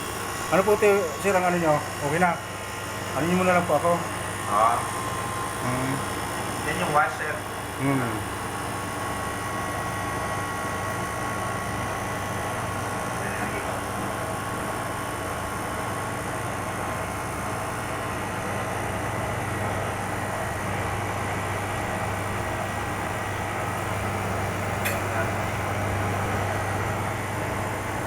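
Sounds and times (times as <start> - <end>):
ice cream machine humming: 0.0 - 28.0.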